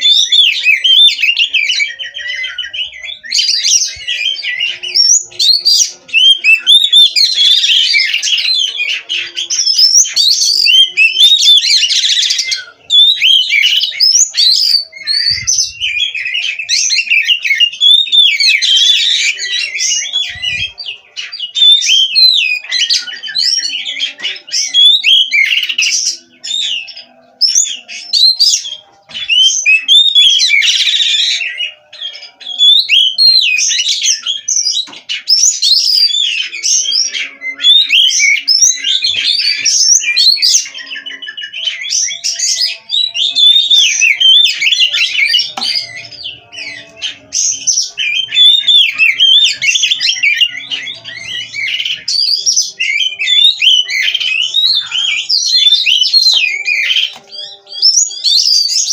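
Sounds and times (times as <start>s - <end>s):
bird singing whistles and chatter: 0.0s - 58.9s.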